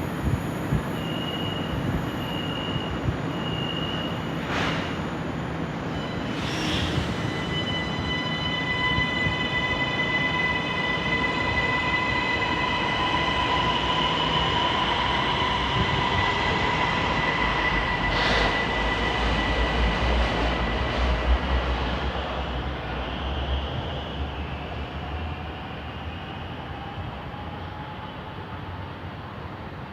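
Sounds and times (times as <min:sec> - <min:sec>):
metro train whine: 0:00.0 - 0:29.9.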